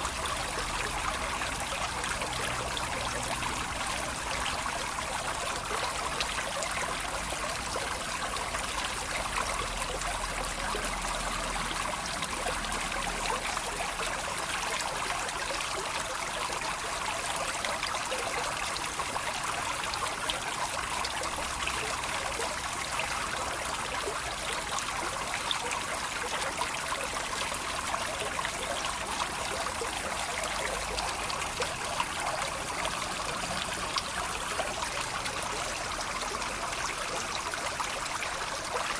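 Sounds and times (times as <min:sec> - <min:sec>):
stream splashing over stones: 0:00.0 - 0:38.9.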